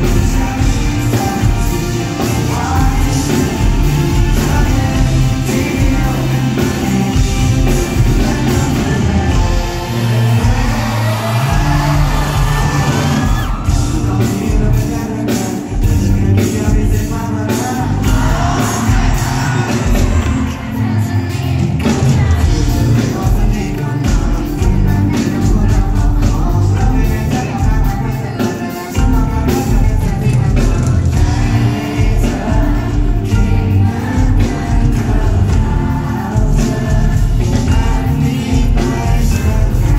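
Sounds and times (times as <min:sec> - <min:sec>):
lead singer singing: 0:00.0 - 0:39.9
pop-rock band playing live: 0:00.0 - 0:39.9
steady drum beat: 0:00.0 - 0:39.9.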